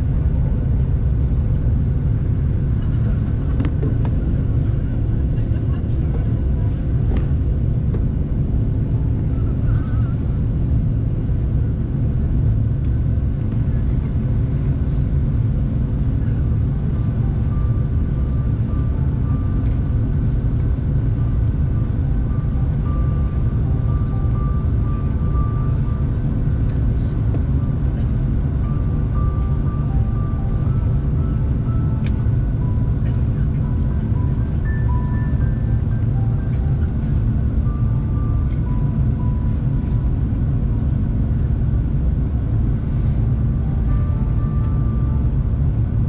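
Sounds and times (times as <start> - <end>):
jet engine and airflow rumble: 0.0 - 46.0
faint high whine: 8.8 - 46.0.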